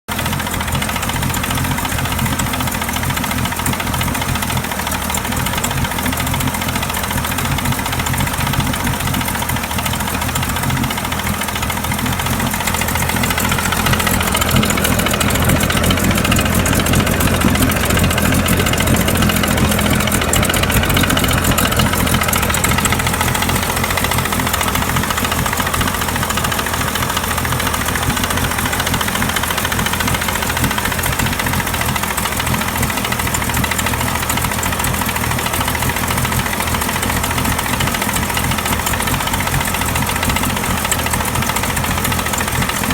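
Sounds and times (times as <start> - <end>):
outboard motor running: 0.0 - 42.9
motor knocking: 0.1 - 42.9.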